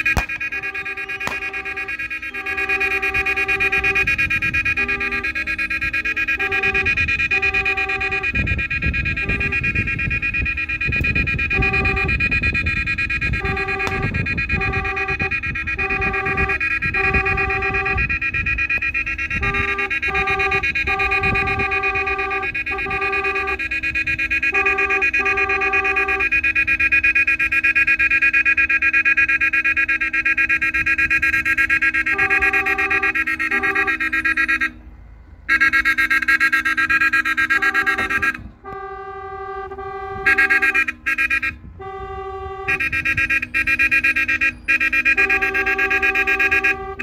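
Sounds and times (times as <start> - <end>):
engine and road rumble: 0.0 - 47.0
horn-like siren blasts: 0.0 - 47.0
rapidly pulsing siren tone: 0.0 - 47.0.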